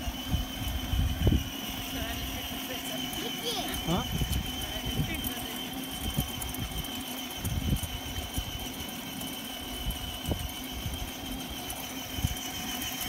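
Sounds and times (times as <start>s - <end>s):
toy car electric motor whirring: 0.0s - 13.0s
plastic wheels knocking on concrete: 1.8s - 13.0s.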